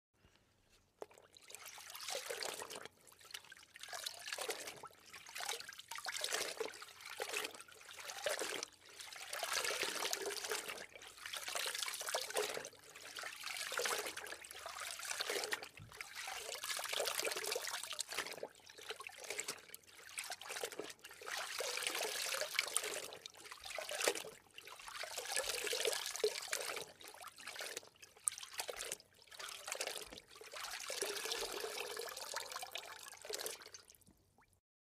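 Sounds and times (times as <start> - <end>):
water trickling and sloshing: 0.2 - 34.6.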